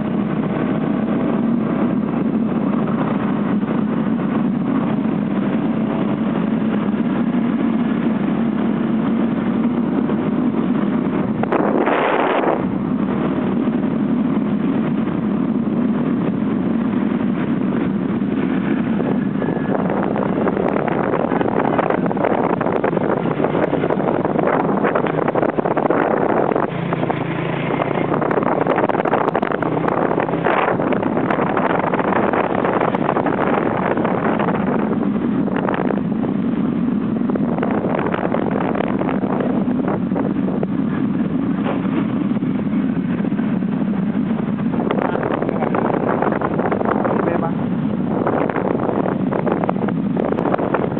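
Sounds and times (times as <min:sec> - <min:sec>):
air and road noise: 0:00.0 - 0:50.9
wind buffeting microphone: 0:00.0 - 0:50.9.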